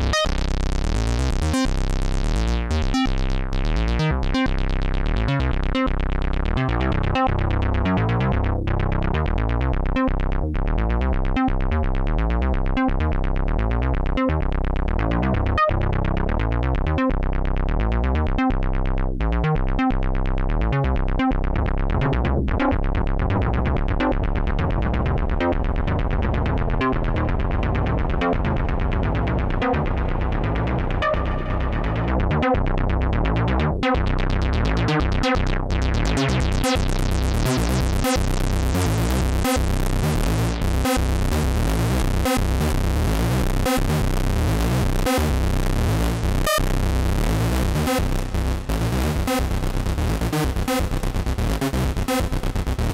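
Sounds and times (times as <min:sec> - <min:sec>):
synthesizer sequence over deep bass: 0:00.0 - 0:52.9.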